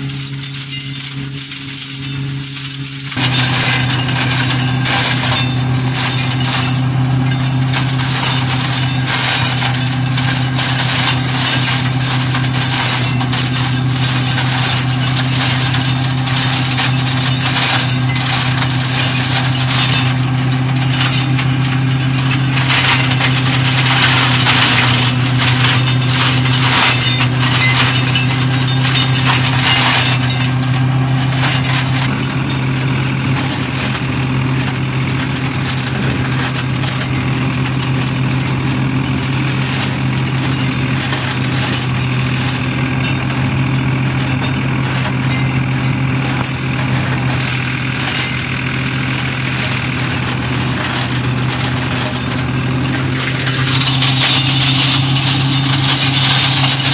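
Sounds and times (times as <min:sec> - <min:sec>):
canes crackling and clattering: 0:00.0 - 0:56.9
tractor engine and mulcher drone: 0:00.0 - 0:56.9.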